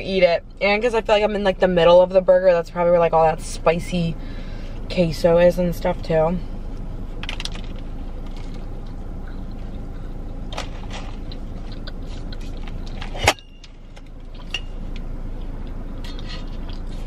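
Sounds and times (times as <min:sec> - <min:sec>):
low hum inside car: 0:00.0 - 0:17.0.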